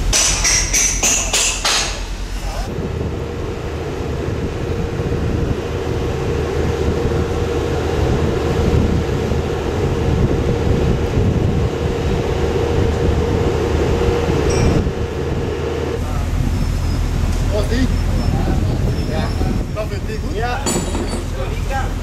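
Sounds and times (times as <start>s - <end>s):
hydraulic system whining: 0.0s - 22.0s.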